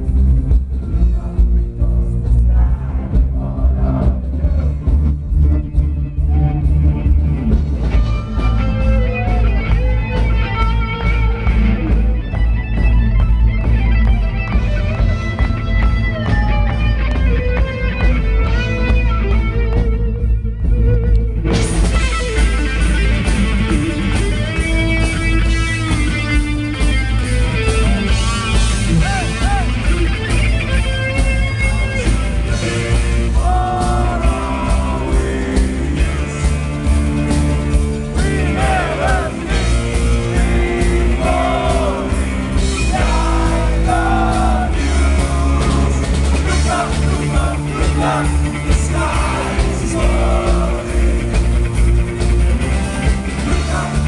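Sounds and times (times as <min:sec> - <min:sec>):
drum kit beat: 0:00.0 - 0:54.0
electric guitars and bass: 0:00.0 - 0:54.0.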